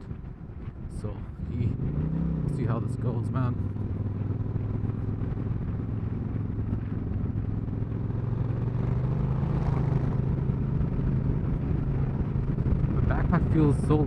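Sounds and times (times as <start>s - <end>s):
motorcycle engine humming: 0.0s - 14.0s.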